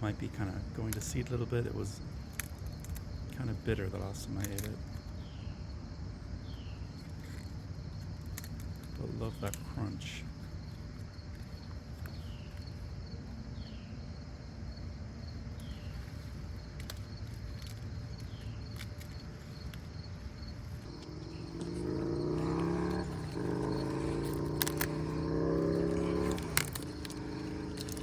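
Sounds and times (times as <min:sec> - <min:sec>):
engine humming: 0:00.0 - 0:28.0
insects chirping faintly: 0:00.0 - 0:28.0
low outdoor rumble: 0:00.0 - 0:28.0.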